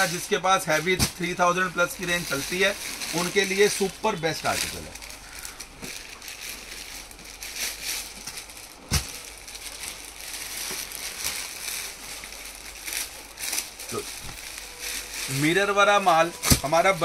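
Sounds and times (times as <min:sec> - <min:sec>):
fabric rustling: 0:00.0 - 0:17.0
plastic packaging crinkling: 0:00.0 - 0:17.0.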